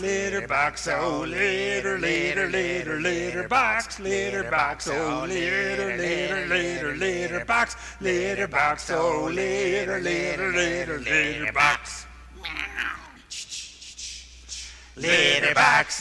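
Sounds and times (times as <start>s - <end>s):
men singing in harmony: 0.0s - 12.0s, 15.0s - 16.0s.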